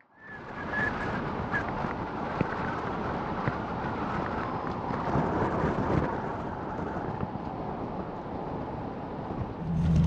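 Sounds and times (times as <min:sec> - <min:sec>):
wind rushing over microphone: 0:00.2 - 0:10.0.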